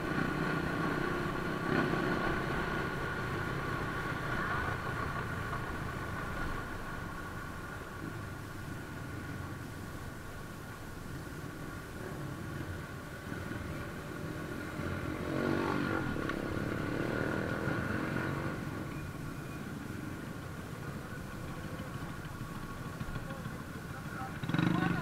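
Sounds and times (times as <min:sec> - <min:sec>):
motorcycle engines: 0:00.0 - 0:25.0
road and wind noise: 0:00.0 - 0:25.0.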